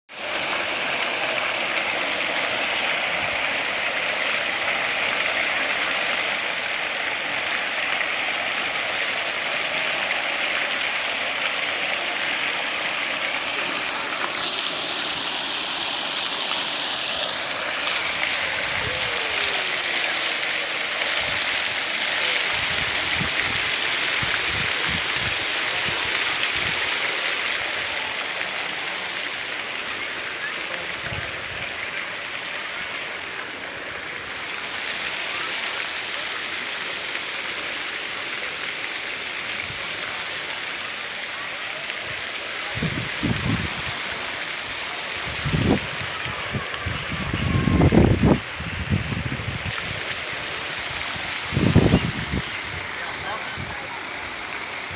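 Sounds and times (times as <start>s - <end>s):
water rushing: 0.0s - 54.9s.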